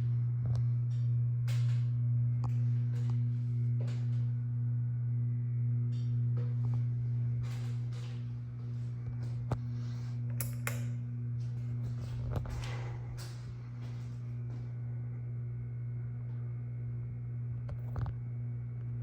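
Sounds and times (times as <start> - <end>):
ceiling fan motor humming: 0.0 - 19.0.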